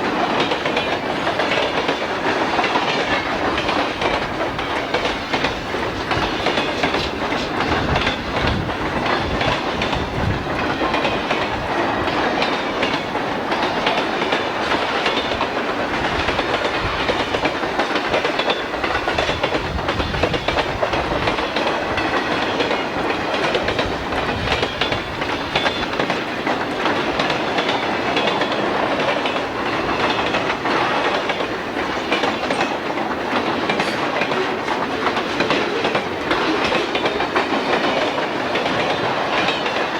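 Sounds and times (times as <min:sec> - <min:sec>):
freight train wheels rumbling: 0:00.0 - 0:39.9
wheels clicking over rail joints: 0:00.0 - 0:39.9.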